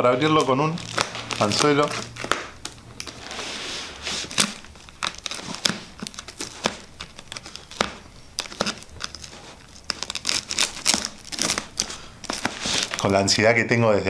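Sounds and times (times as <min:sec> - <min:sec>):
plastic wrap crinkling: 0:00.0 - 0:13.5.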